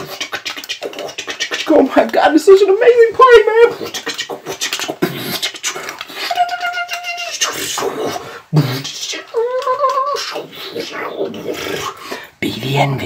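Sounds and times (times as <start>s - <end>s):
person beatboxing: 0.0s - 12.3s.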